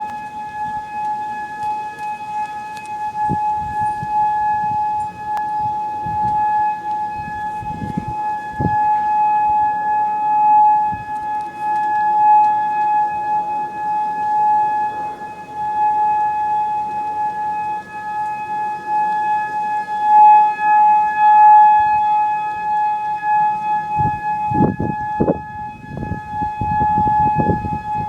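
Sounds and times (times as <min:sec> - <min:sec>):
warning siren steady tone: 0:00.0 - 0:28.0.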